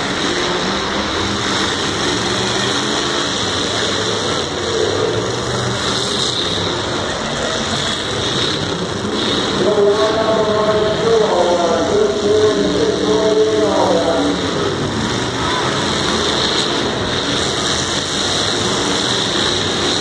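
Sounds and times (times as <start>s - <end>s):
car engines running: 0.0s - 20.0s.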